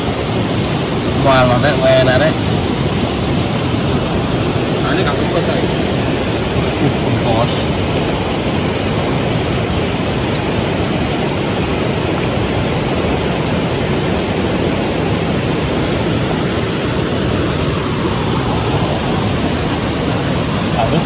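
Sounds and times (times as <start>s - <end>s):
loud rushing noise: 0.0s - 21.0s.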